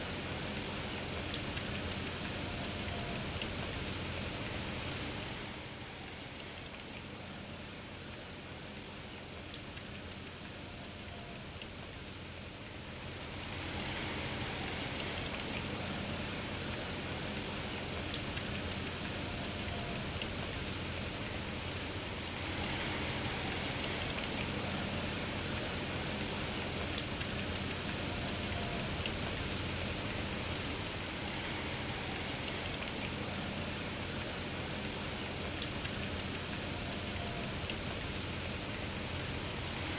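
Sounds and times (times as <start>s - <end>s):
heavy raindrop tick: 0.0s - 39.9s
steady rain hiss: 0.0s - 39.9s.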